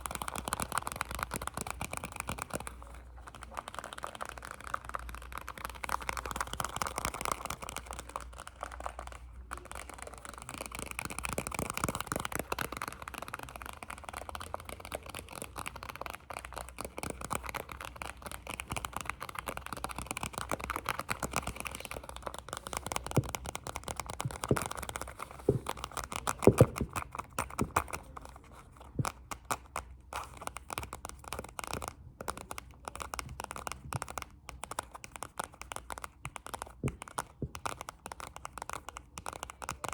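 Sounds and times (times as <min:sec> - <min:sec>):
fast light hand taps: 0:00.0 - 0:39.9.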